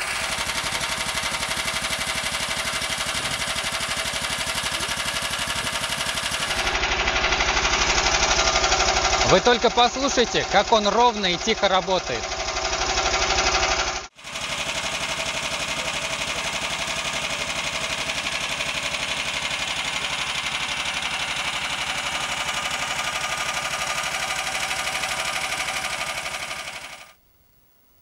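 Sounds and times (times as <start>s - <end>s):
small four-stroke engine running: 0.0s - 27.2s.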